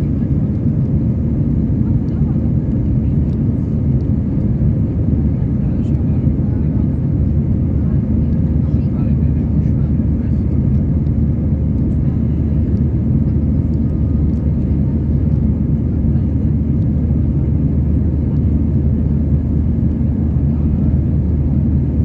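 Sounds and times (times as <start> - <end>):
jet engine rumble inside cabin: 0.0 - 22.0.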